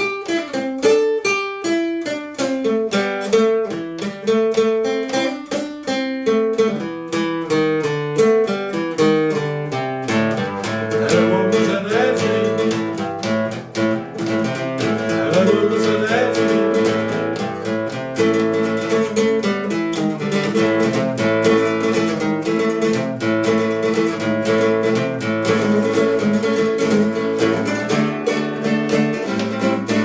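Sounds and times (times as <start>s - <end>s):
acoustic guitar picking: 0.0s - 30.0s.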